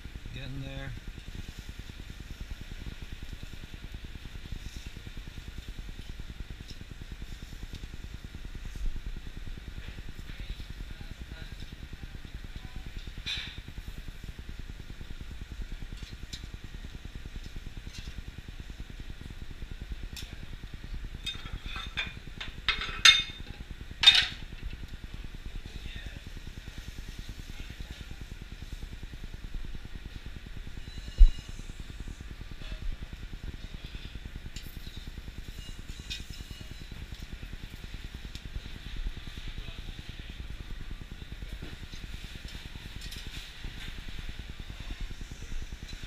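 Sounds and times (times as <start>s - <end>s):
steady kitchen hiss: 0.0s - 46.0s.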